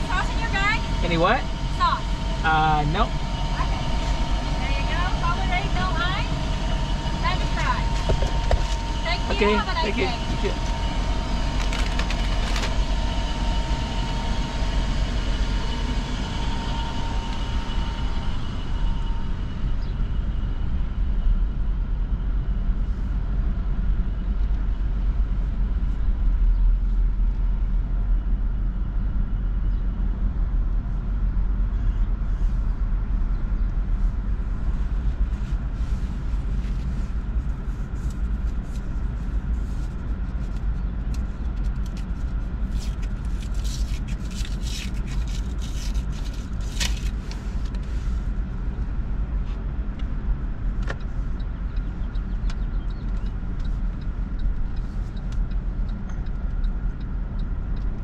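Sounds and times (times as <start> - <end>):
car engine and road rumble: 0.0 - 58.0
thin steady whine: 0.0 - 58.0.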